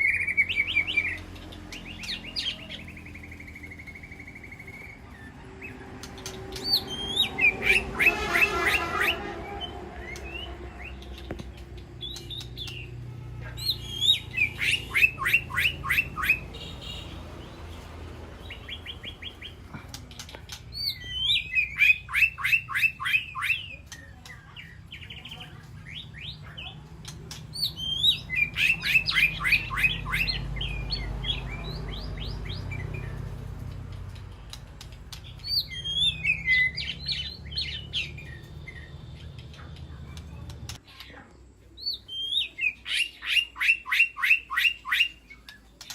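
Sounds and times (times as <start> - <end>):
bird singing: 0.0 - 45.9.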